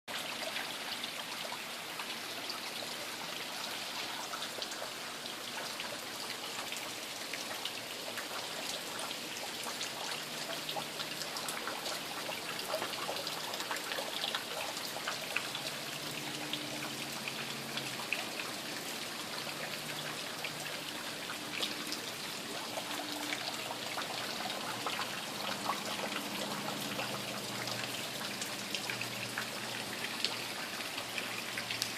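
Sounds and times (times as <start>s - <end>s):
raindrops striking hard surfaces: 0.1s - 31.9s
steady rain falling: 0.1s - 31.9s.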